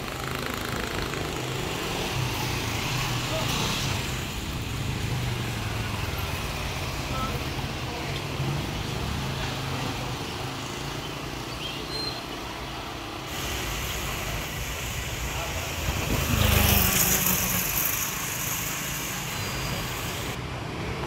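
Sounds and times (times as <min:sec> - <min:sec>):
traffic engines humming: 0:00.0 - 0:21.0.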